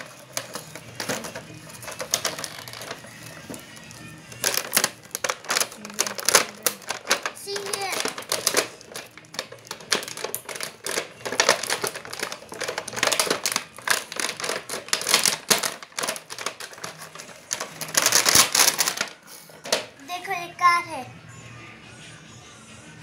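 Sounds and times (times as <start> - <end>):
plastic packaging crinkling: 0.0 - 20.2.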